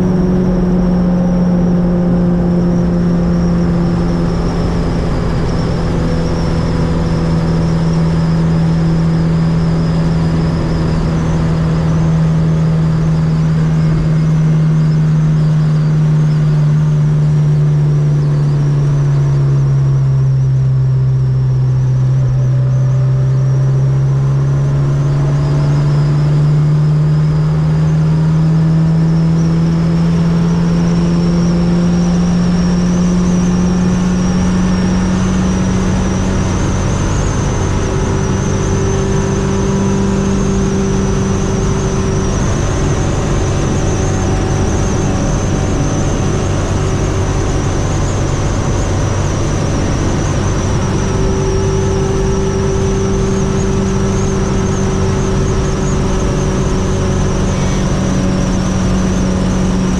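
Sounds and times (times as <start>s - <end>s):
car engine at speed: 0.0s - 59.9s
road and wind noise: 0.0s - 59.9s
thin high whine: 0.0s - 59.9s.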